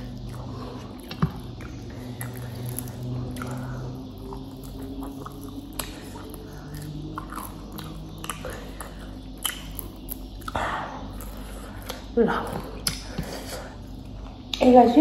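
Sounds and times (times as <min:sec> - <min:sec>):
person chewing and biting: 0:00.0 - 0:14.6
wet mouth clicks: 0:01.0 - 0:13.4.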